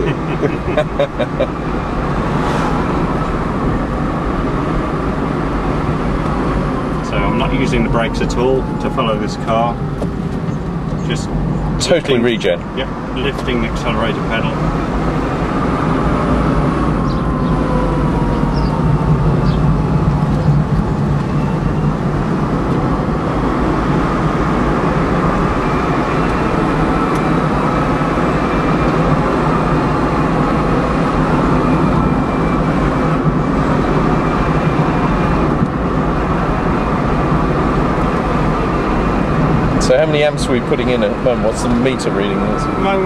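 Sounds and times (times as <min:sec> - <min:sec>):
road and tyre rumble: 0:00.0 - 0:43.0.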